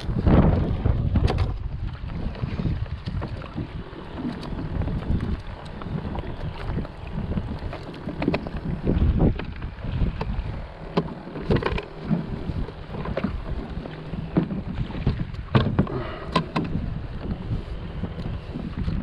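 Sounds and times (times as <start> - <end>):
knocks from boat and gear: 0.0 - 6.9, 7.6 - 17.4
wind buffeting microphone: 0.0 - 19.0.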